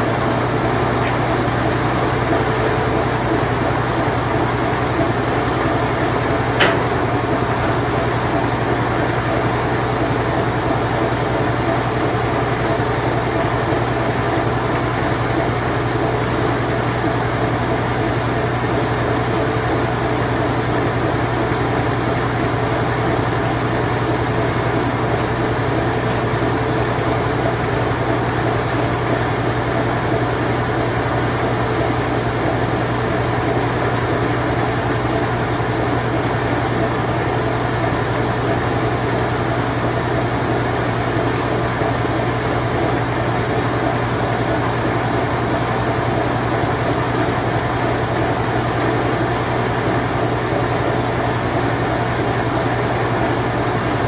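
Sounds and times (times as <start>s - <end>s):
washing machine spin cycle hum: 0.0s - 54.0s.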